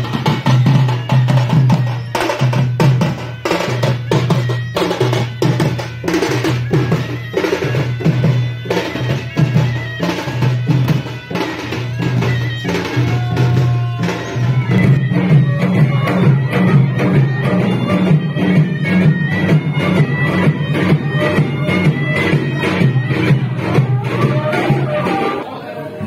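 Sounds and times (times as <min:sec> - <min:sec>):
drums beaten in fast rhythm: 0:00.0 - 0:25.6.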